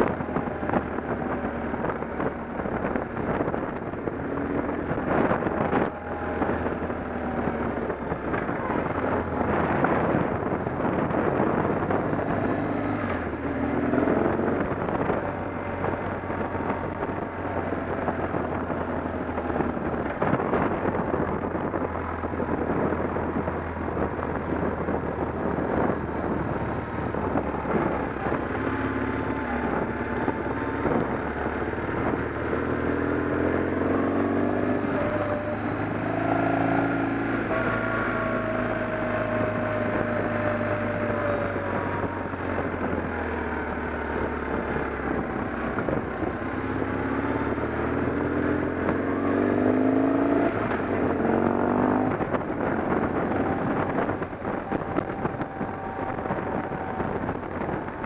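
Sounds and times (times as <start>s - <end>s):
engine running: 0.0s - 58.0s
low hum: 0.0s - 58.0s
rushing noise: 0.0s - 58.0s.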